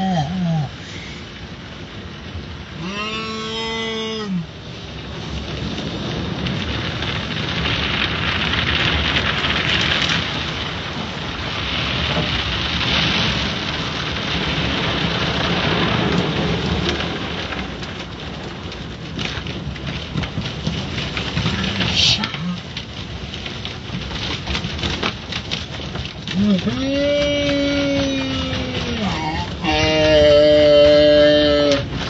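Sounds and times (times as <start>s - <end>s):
water and foam beating on car: 4.4s - 32.0s.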